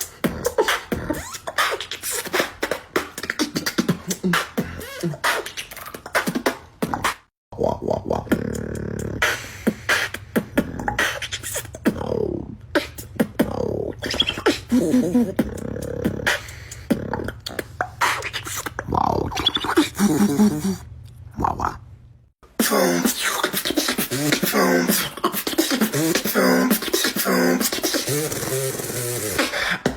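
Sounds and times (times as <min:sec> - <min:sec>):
beatboxing: 0:00.0 - 0:21.8, 0:22.4 - 0:29.9.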